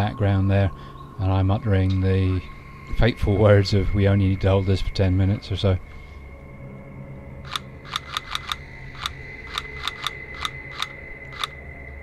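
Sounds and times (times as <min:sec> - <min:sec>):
faint steady high tone: 0:00.0 - 0:12.0.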